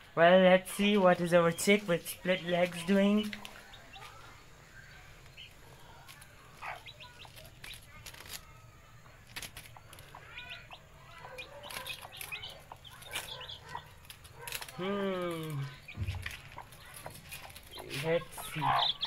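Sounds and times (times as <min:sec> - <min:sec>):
poultry chirping and peeping: 0:00.4 - 0:19.0.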